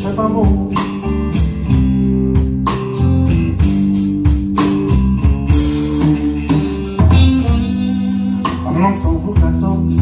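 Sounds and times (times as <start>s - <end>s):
electric guitars sustained notes: 0.0s - 10.0s
drum kit and cymbal hits: 0.4s - 10.0s.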